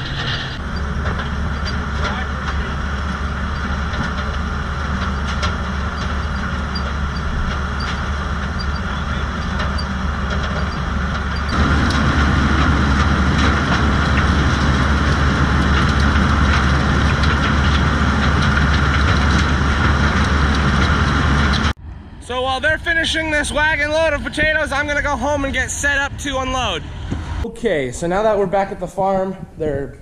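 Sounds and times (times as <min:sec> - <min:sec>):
tractor engine drone: 0:00.0 - 0:27.5.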